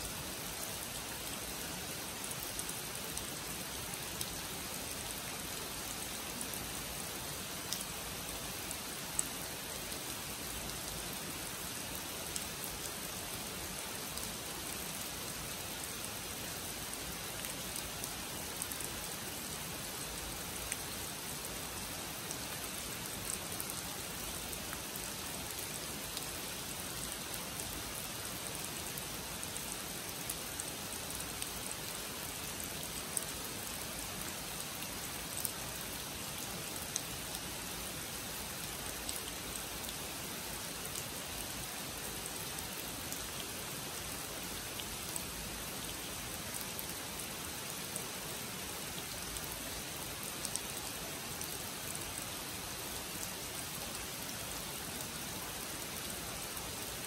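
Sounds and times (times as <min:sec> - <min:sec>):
rain on pond and foliage: 0:00.0 - 0:57.0.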